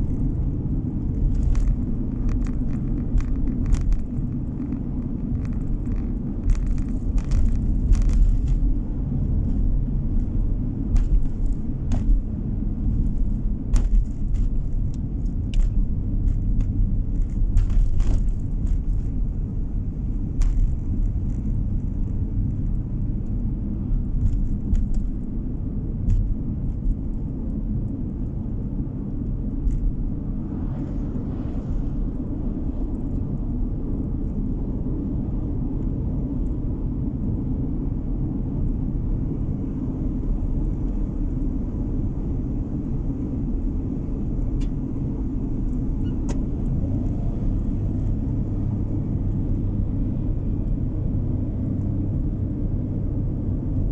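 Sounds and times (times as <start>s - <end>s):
car engine and tyre rumble: 0.0s - 53.9s.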